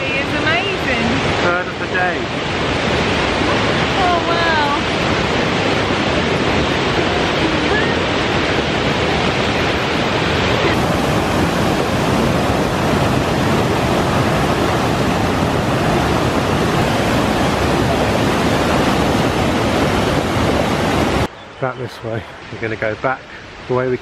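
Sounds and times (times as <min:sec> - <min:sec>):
waterfall rushing water: 0:00.0 - 0:24.0.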